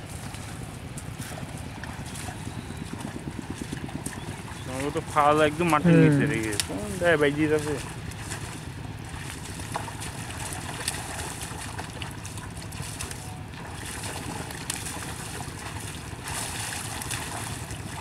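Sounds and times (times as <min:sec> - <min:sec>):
wind rumble on microphone: 0:00.0 - 0:05.8, 0:06.4 - 0:18.0
faint splashes: 0:00.0 - 0:18.0
hooves sloshing through mud: 0:00.0 - 0:18.0
plough sloshing through mud: 0:00.0 - 0:18.0.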